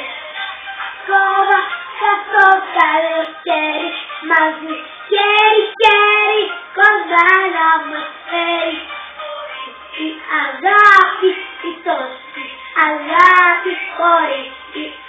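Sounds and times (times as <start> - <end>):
girl singing: 0.0 - 0.3, 1.0 - 15.0.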